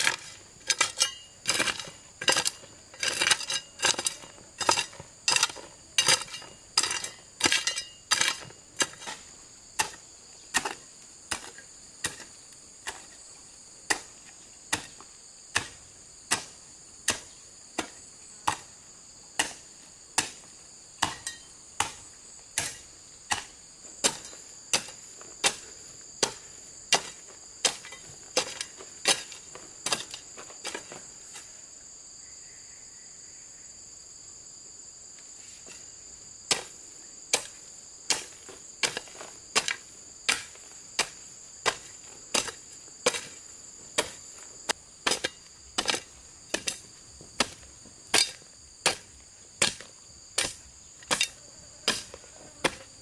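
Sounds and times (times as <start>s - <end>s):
hoe chopping stony soil: 0.0s - 18.8s, 19.4s - 31.5s, 36.5s - 53.0s
insects chirring: 0.0s - 53.0s.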